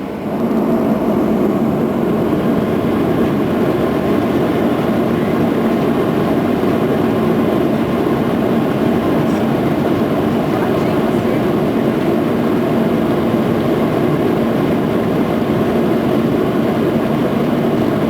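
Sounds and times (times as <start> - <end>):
jet engines rumbling at high thrust: 0.0 - 18.0.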